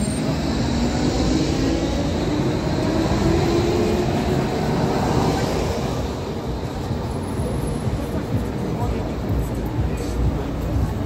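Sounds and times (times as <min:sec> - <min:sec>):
low rising hum: 0:00.0 - 0:11.0
tram passing: 0:00.0 - 0:11.0.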